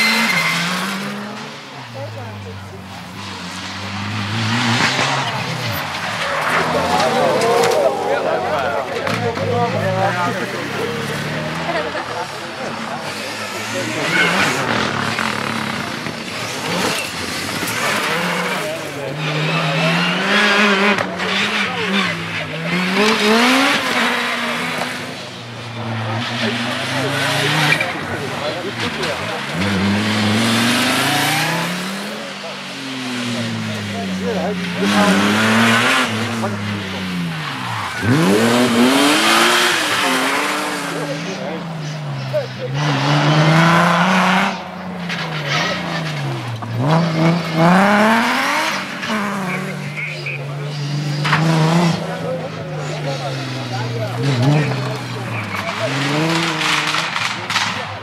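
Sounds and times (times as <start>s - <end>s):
gravel and tyre noise: 0.0s - 58.0s
rally car engine revving: 0.0s - 58.0s.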